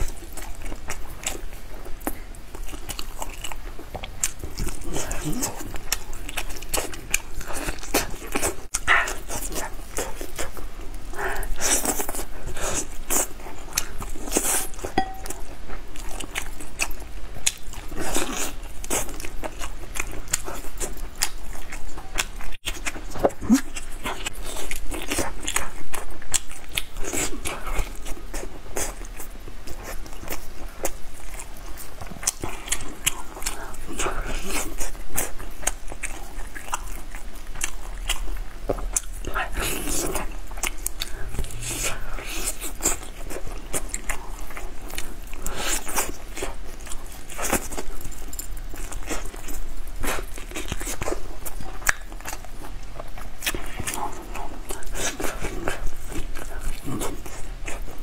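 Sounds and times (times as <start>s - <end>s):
chewing and crunching: 0.0s - 58.0s.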